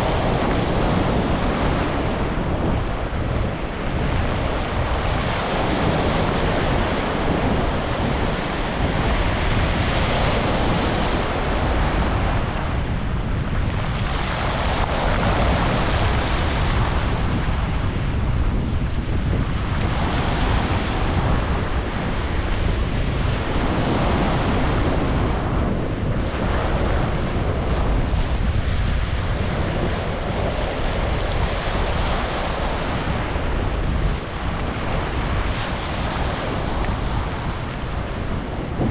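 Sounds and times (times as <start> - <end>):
deep steady rumble: 0.0 - 38.9
ocean waves breaking on beach: 0.0 - 38.9.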